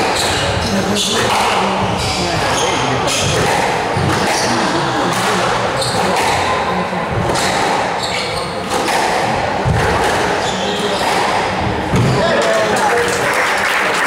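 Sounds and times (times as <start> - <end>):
squash ball struck by racquets: 0.0 - 12.2
shoes squeaking on wooden floor: 0.0 - 12.3.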